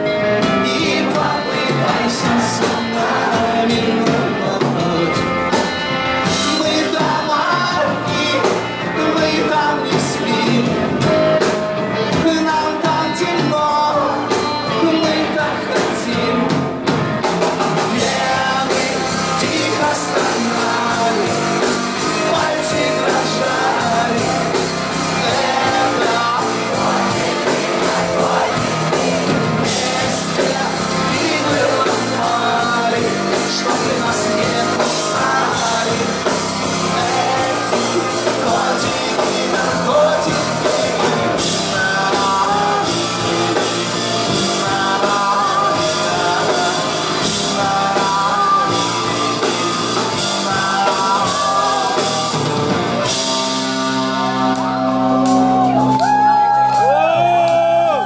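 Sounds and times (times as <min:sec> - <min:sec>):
person singing: 0:00.0 - 0:16.9, 0:17.8 - 0:58.0
rock band playing: 0:00.0 - 0:58.0.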